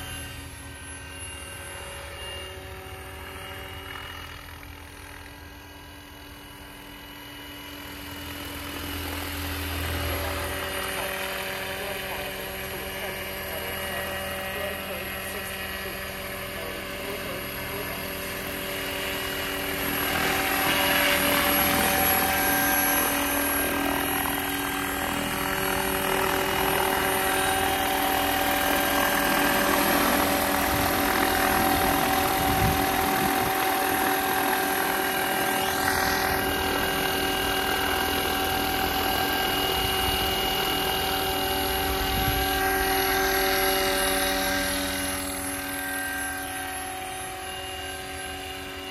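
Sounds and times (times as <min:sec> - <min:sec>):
electric motor whine: 0:00.0 - 0:48.9.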